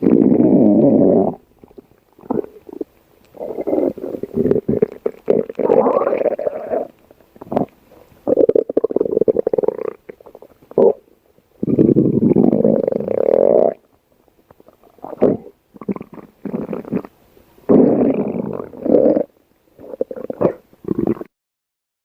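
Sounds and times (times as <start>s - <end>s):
stomach growling: 0.0s - 17.1s, 17.7s - 21.3s.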